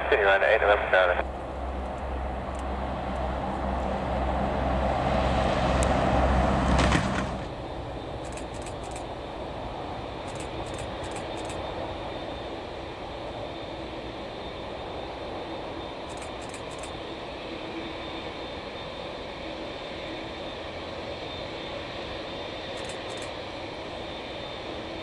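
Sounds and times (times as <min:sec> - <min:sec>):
jet airliner engine rumble: 0:00.0 - 0:25.0.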